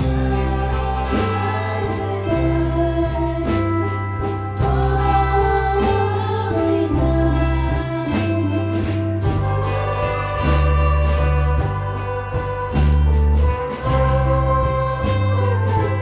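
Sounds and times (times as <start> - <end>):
steady bass line: 0.0 - 16.0.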